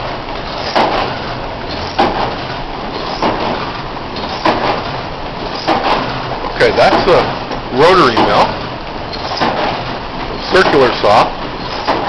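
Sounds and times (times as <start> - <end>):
sawmill machinery knocking: 0.0 - 12.0.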